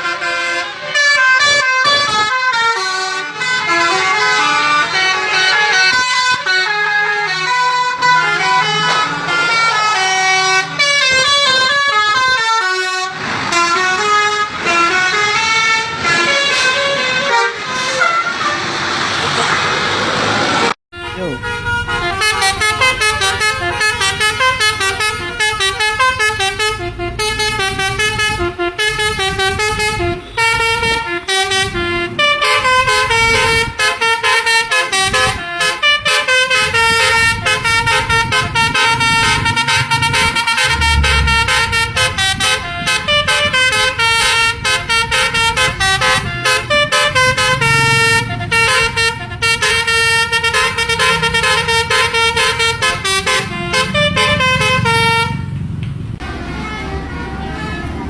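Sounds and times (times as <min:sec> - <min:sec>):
musical air horn melody: 0:00.0 - 0:18.8, 0:20.9 - 0:55.5, 0:56.2 - 0:58.0.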